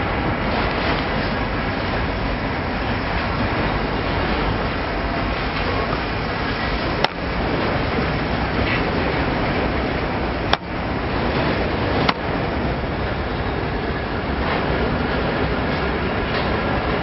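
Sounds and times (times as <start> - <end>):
steel wheels rolling on rails: 0.0 - 17.0.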